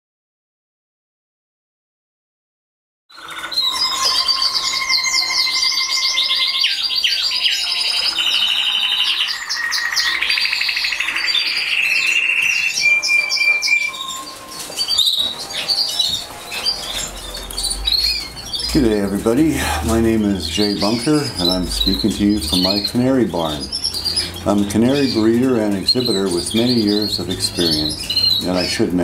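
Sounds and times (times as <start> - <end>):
canaries singing: 3.1 - 29.0.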